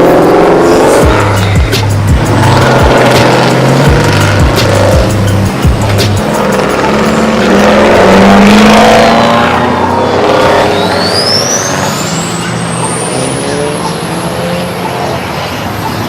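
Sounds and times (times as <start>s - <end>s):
vehicle engine revving: 0.0s - 16.0s.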